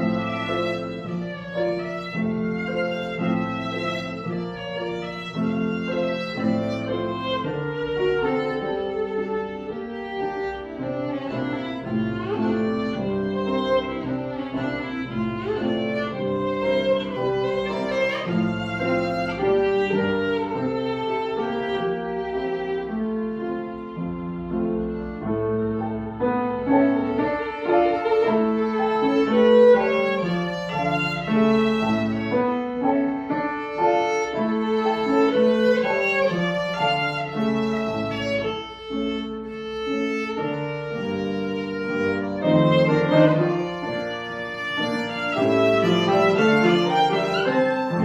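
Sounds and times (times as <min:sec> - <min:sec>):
bowed string instrument melody: 0:00.0 - 0:48.0.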